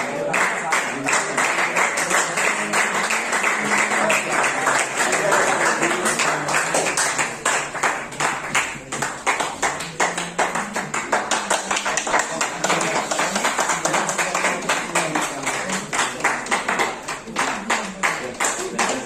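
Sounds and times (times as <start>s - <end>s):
people clapping: 0.0s - 19.0s.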